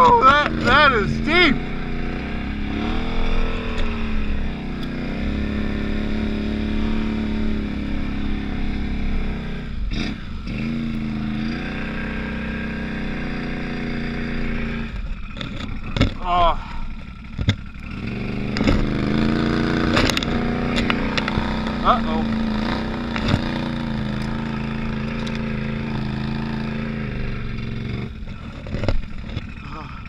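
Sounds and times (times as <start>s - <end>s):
atv engine revving under load: 0.0s - 30.0s.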